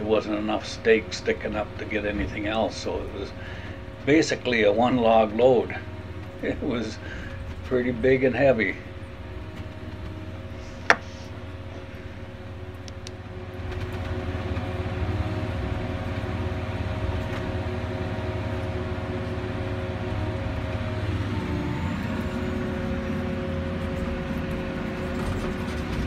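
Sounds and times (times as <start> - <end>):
diesel engine and hydraulics: 0.0 - 26.0
steady whine: 0.0 - 26.0.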